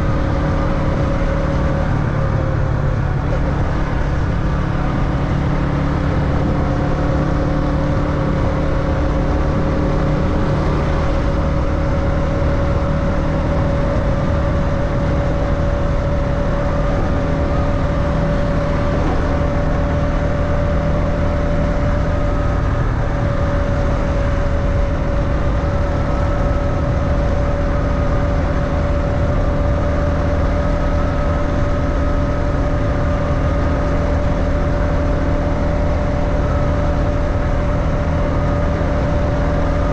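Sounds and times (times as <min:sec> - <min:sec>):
motorbike engine cruising: 0:00.0 - 0:39.9.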